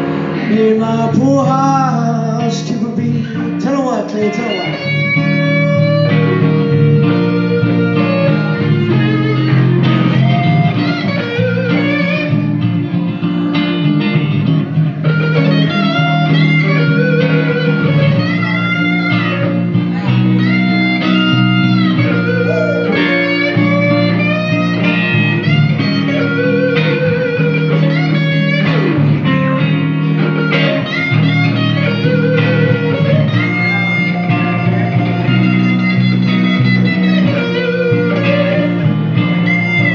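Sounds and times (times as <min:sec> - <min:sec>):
backing guitar: 0:00.0 - 0:39.9
electric guitar blues solo: 0:00.0 - 0:39.9.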